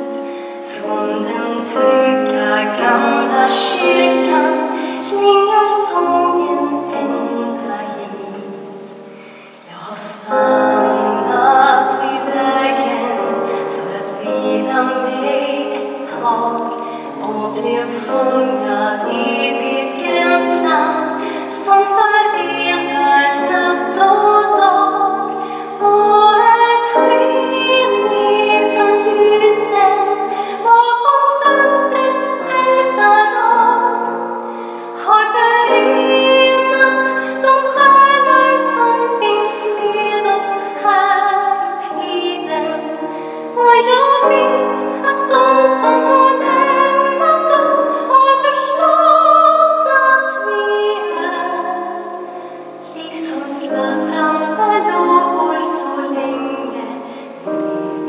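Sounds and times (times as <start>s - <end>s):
grand piano: 0.0s - 58.0s
woman singing: 0.0s - 58.0s.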